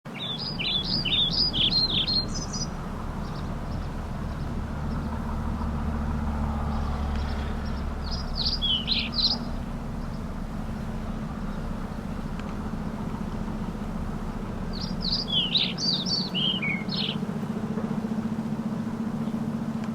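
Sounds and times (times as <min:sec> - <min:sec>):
songbird chirping: 0:00.1 - 0:19.6
steady low hum: 0:00.1 - 0:19.9.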